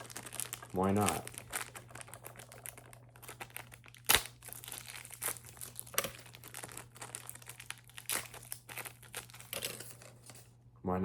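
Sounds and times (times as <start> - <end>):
sharp plastic crack: 0.0 - 8.8
plastic wrapping crinkling: 0.0 - 10.2.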